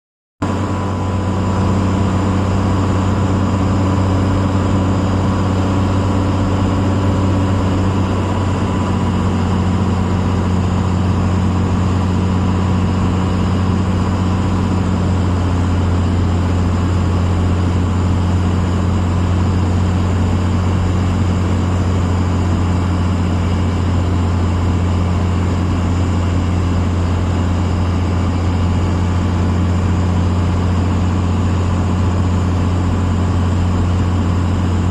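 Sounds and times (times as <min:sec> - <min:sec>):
aircraft engine and propeller droning: 0:00.4 - 0:34.9.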